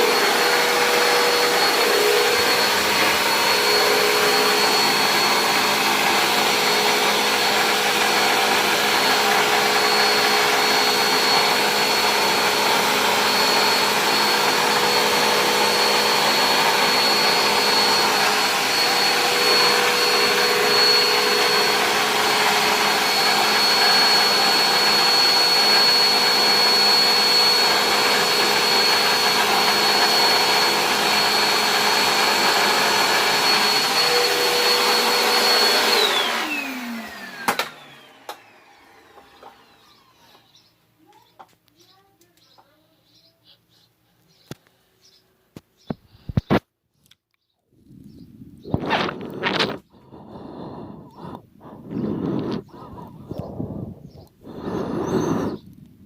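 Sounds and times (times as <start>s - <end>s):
vacuum cleaner motor whine: 0.0s - 41.5s, 48.0s - 56.0s.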